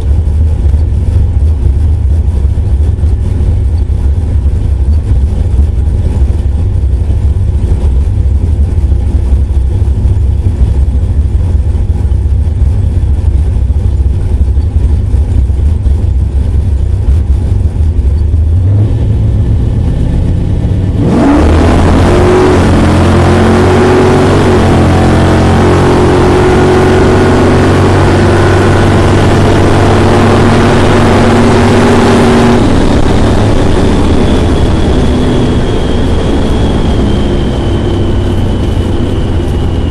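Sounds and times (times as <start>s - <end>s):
drag race car engine revving: 0.0s - 39.9s.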